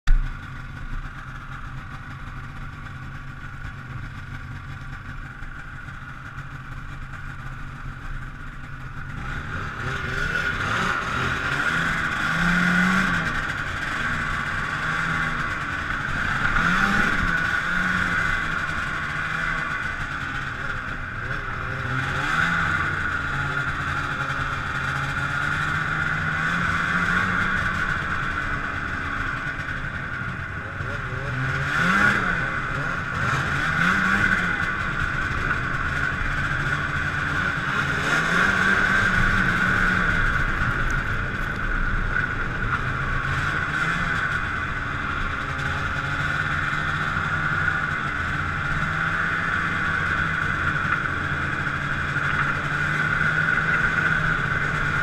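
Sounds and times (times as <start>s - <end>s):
snowmobile engine: 0.1s - 55.0s.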